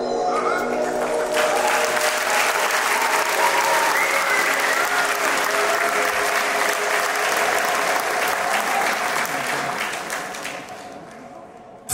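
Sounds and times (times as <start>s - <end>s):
audience applauding: 0.4s - 11.5s.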